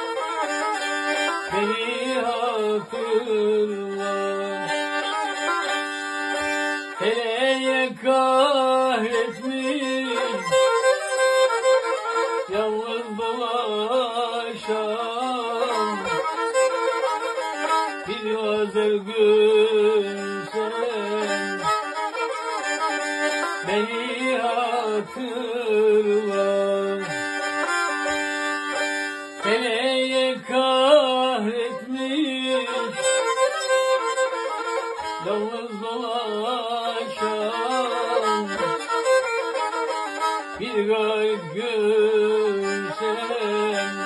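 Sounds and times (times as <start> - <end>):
bowed fiddle folk tune: 0.0 - 44.0
man singing: 0.0 - 44.0.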